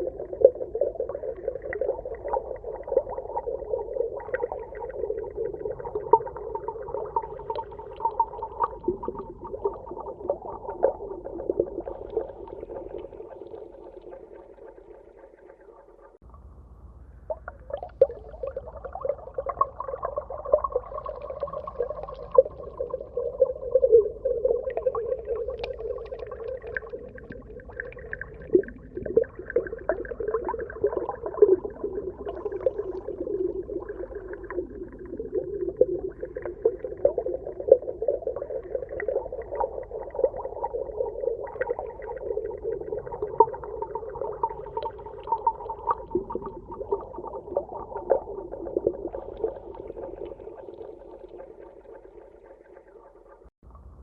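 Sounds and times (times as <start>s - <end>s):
underwater low hum: 0.0s - 54.0s.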